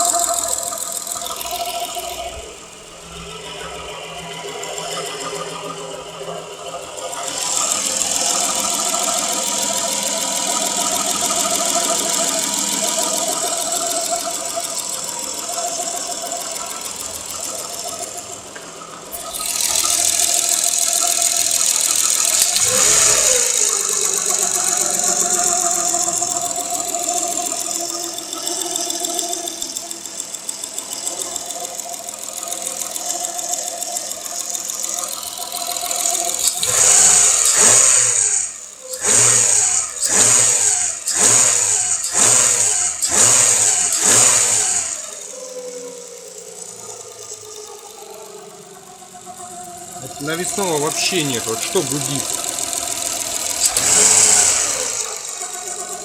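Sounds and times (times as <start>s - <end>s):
car engine running with squeal: 0.0s - 56.0s.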